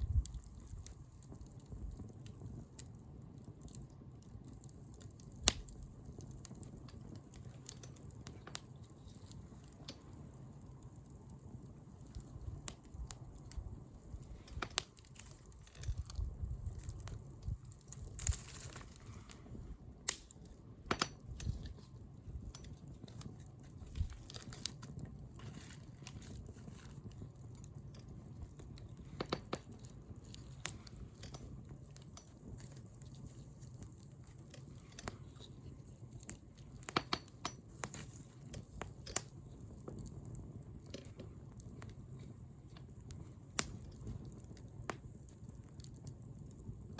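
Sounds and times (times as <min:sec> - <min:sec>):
bonfire crackling and popping: 0:00.0 - 0:46.9
low rumble of flame: 0:00.0 - 0:46.9.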